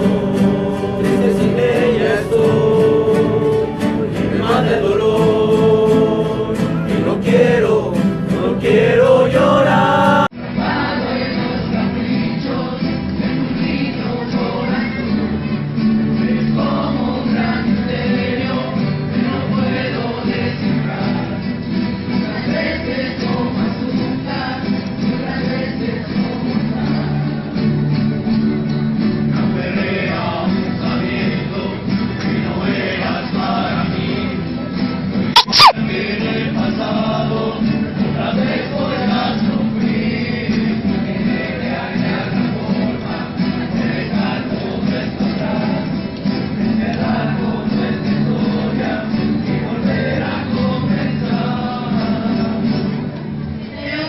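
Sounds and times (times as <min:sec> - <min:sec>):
male voices singing in chorus: 0:00.0 - 0:27.9, 0:29.2 - 0:34.8, 0:35.4 - 0:54.0
guitars strummed together: 0:00.0 - 0:54.0.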